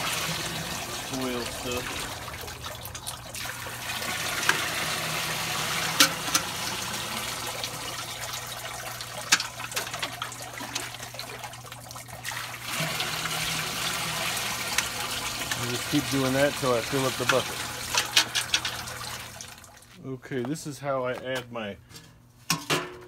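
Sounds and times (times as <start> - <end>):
liquid pouring and trickling: 0.0 - 19.9.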